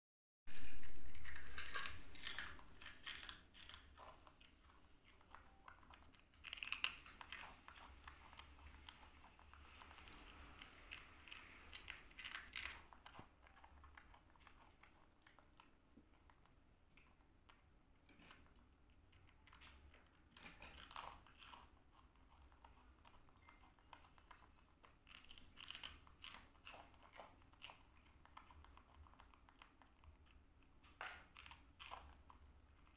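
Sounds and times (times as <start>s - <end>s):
monkey crunching rice cakes: 0.5s - 32.9s.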